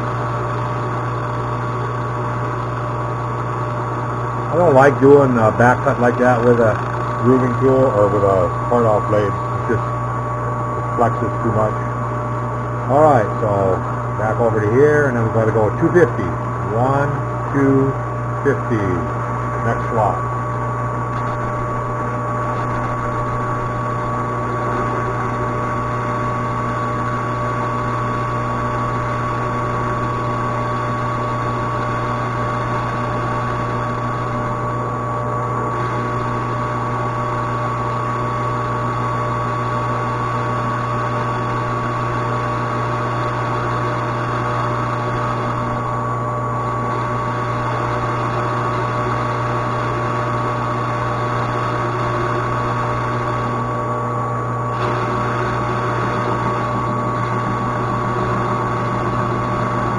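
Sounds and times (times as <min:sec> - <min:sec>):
metal lathe whining: 0:00.0 - 0:59.9.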